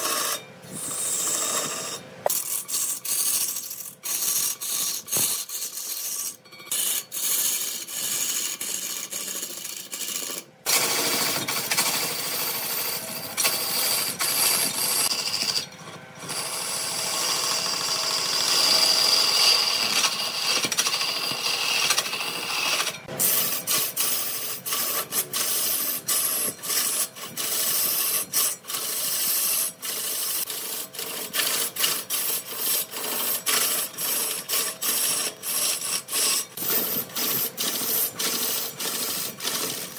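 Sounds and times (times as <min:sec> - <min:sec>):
wood being shaved on a lathe: 0:00.0 - 0:39.9.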